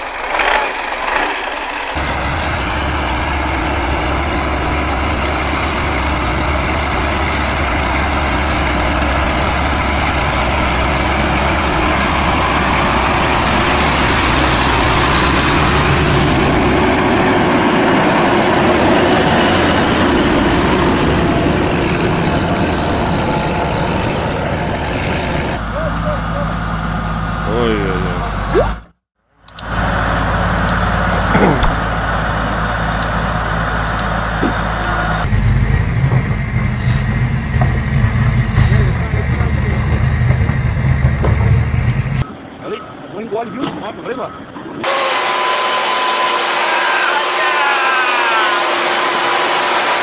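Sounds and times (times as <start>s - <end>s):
tractor engine running under load: 0.0s - 27.6s, 29.5s - 42.2s.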